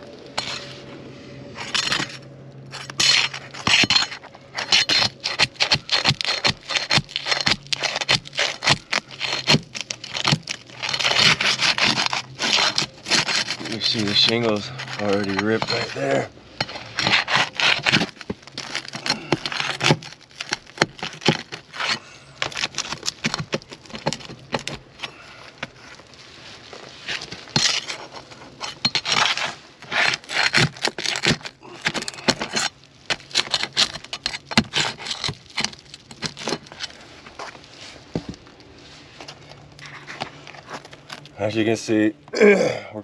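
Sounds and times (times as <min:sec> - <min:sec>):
shingles scraping and crackling: 0:00.0 - 0:41.8.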